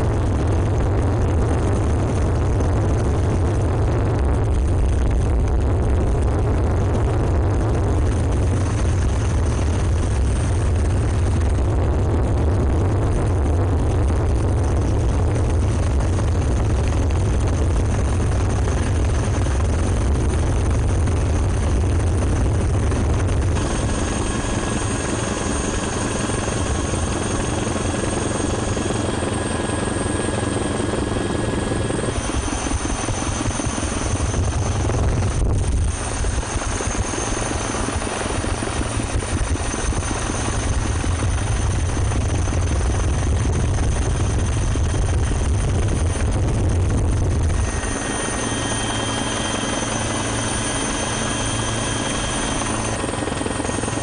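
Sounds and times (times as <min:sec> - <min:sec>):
helicopter rotor and turbine: 0:00.0 - 0:54.0.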